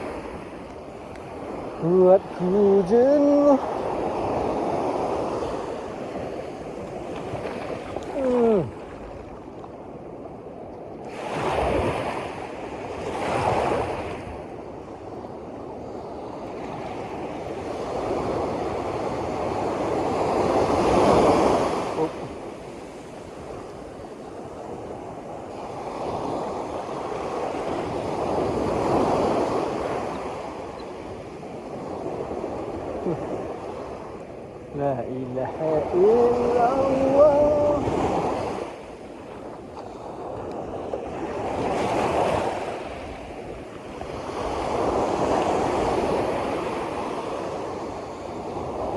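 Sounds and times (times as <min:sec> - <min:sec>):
waves washing in: 0:00.0 - 0:48.9.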